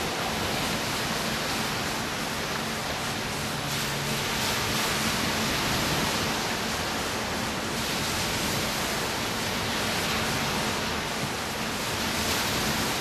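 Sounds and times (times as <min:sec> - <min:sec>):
ocean surf washing on beach: 0:00.0 - 0:13.0.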